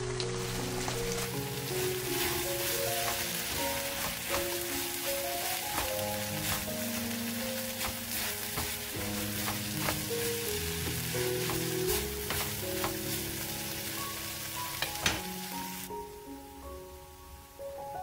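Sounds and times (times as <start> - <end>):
food sizzling in a pan: 0.0 - 17.7.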